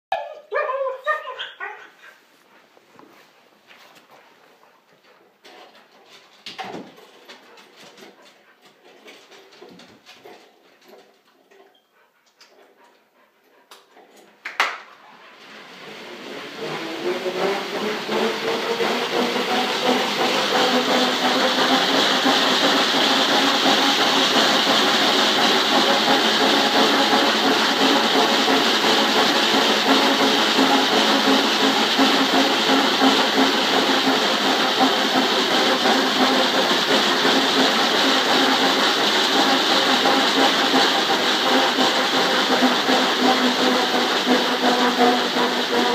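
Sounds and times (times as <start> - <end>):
dog treadmill whine and rattling hum: 0.1 - 2.0, 3.2 - 45.9.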